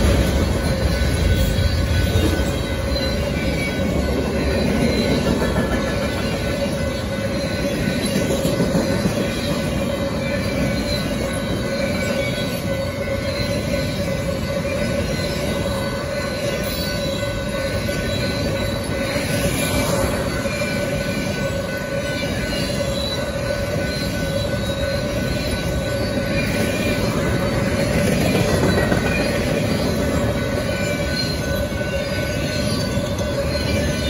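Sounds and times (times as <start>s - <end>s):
train wheels rumbling on rail: 0.0s - 34.0s
wheels squealing: 0.0s - 34.0s.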